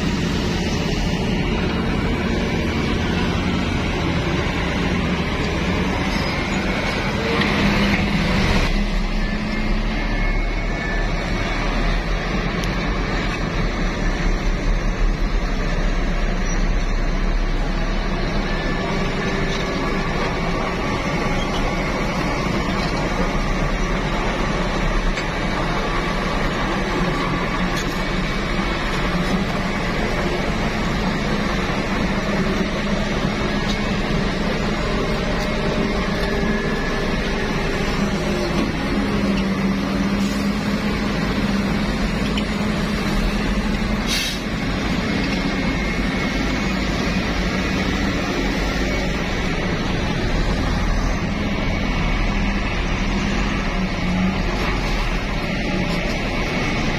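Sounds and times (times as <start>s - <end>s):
diesel truck engine running: 0.0s - 56.9s.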